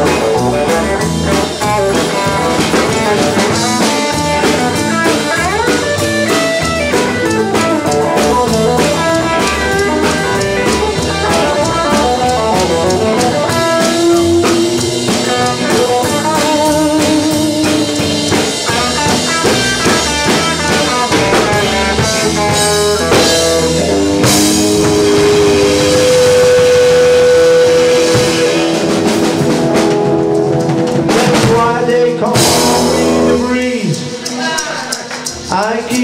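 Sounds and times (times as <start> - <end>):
drum kit: 0.0 - 36.0
electric guitar lead lines: 0.0 - 36.0.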